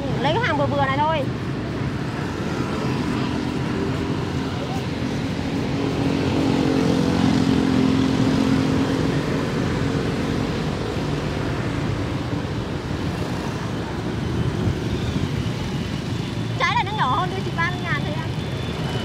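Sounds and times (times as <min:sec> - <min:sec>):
street traffic: 0:00.0 - 0:19.0
vehicle engine humming: 0:00.0 - 0:19.0.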